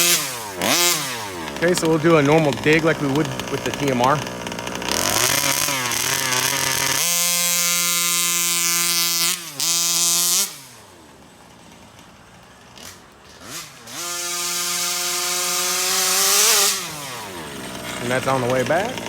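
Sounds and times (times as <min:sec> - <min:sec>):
two-stroke engine at full throttle: 0:00.0 - 0:19.0.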